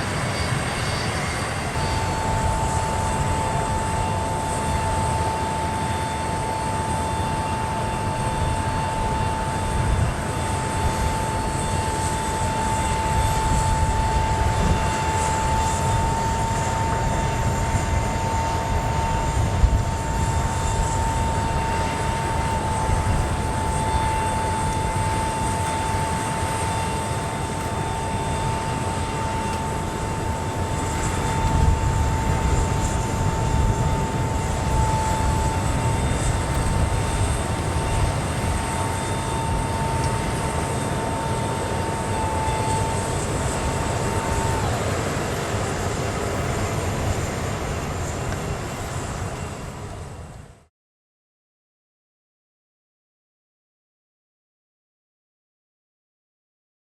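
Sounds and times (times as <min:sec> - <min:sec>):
jet engines running: 0:00.0 - 0:50.7.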